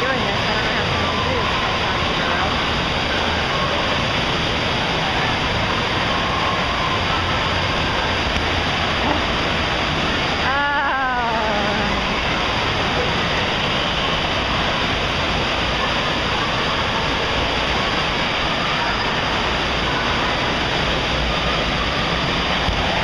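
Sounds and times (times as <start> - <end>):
rushing water in pool hall: 0.0 - 23.0.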